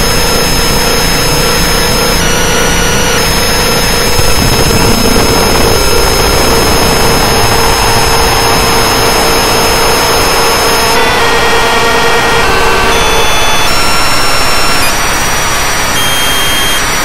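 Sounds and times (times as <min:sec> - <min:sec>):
distorted noise music: 0:00.0 - 0:17.0
mid-pitched drone: 0:00.0 - 0:17.0.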